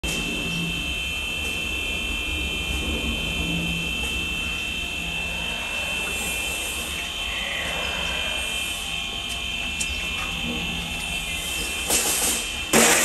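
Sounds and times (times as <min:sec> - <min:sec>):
mechanical drone with whine: 0:00.0 - 0:13.0.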